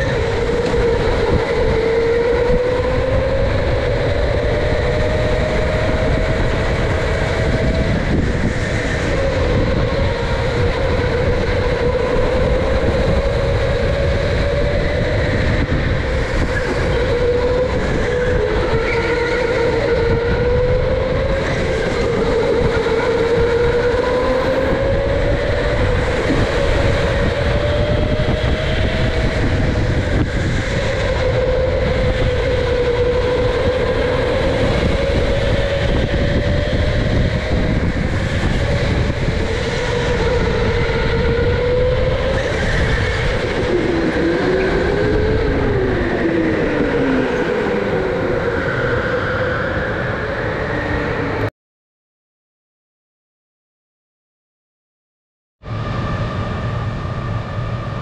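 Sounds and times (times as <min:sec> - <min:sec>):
electric go-kart motor whining: 0:00.0 - 0:51.5
kart rumbling on track: 0:00.0 - 0:51.5.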